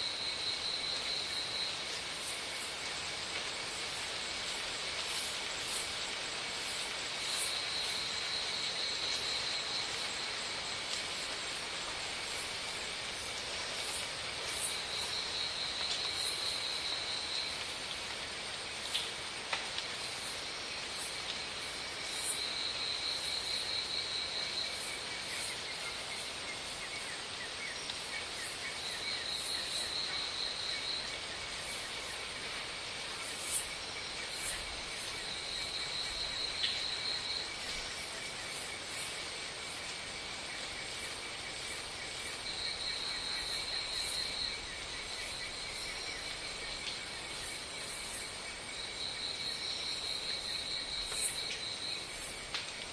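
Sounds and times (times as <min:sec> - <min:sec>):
insects chirring: 0:00.0 - 0:52.9
steady background hiss: 0:00.0 - 0:52.9.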